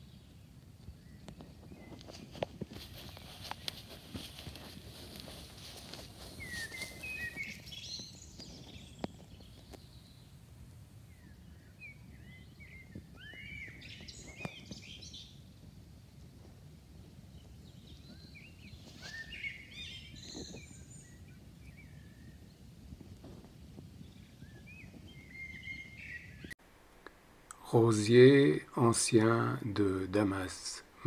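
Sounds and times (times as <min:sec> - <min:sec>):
songbirds singing: 0:00.0 - 0:26.6.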